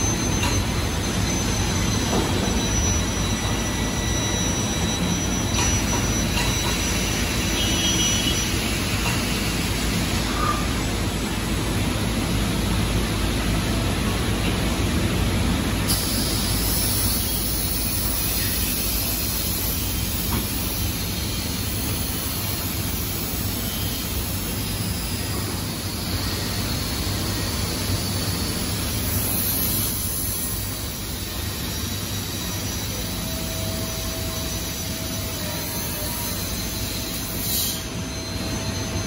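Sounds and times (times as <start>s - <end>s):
assembly line machinery humming: 0.0s - 39.0s.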